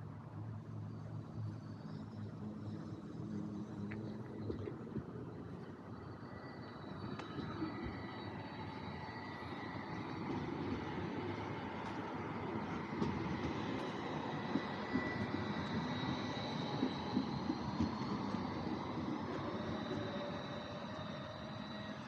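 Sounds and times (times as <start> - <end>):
tram electric whine: 0.0 - 22.0
tram rumbling: 0.0 - 22.0.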